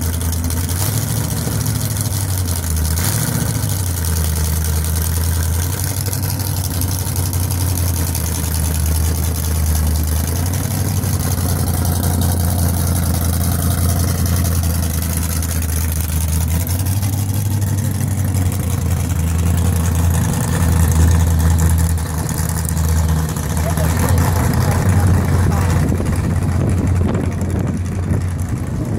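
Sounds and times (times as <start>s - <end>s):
car engine idling loudly: 0.0s - 28.9s.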